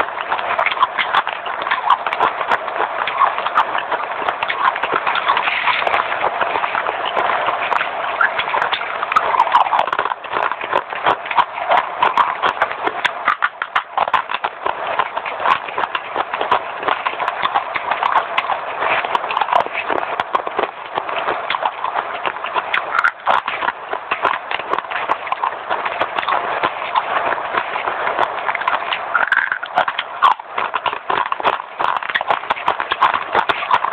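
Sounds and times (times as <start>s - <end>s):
crunchy chewing: 0.0s - 33.9s.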